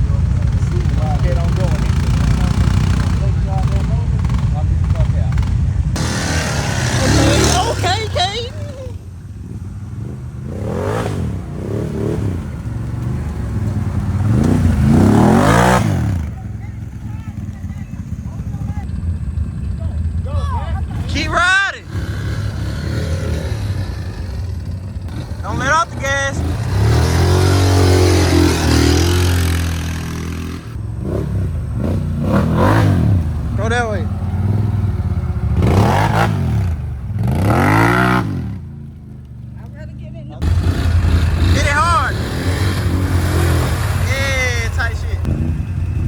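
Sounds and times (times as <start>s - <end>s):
atv engine revving: 0.0s - 46.0s.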